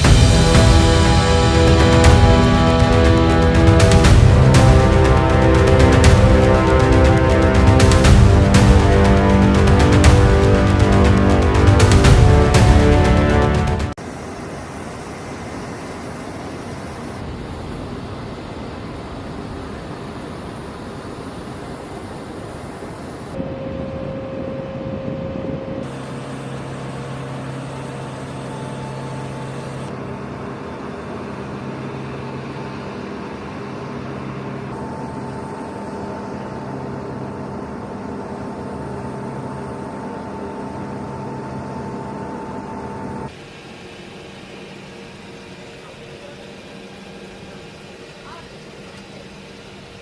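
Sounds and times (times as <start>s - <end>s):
jet engines running: 0.0s - 50.0s.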